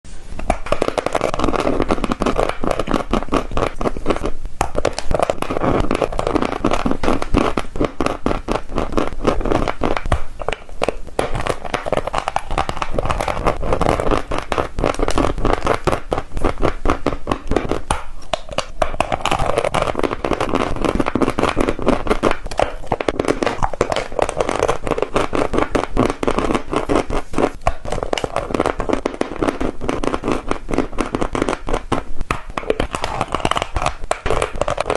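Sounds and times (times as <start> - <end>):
chalk being chewed crunching: 0.7 - 30.6, 31.2 - 34.9.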